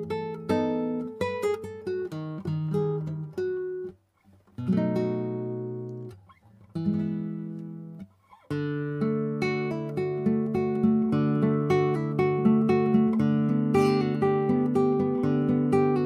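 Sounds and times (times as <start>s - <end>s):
nylon-string guitar playing: 0.0s - 16.0s.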